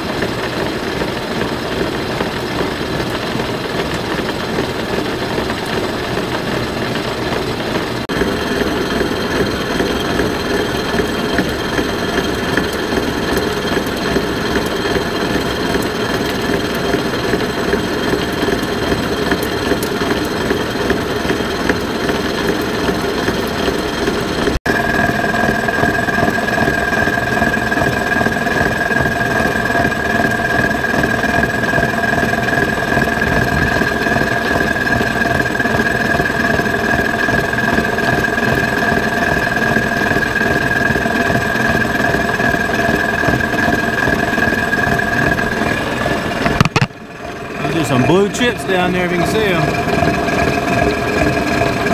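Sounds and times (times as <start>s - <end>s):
milling machine whining: 0.0s - 51.9s.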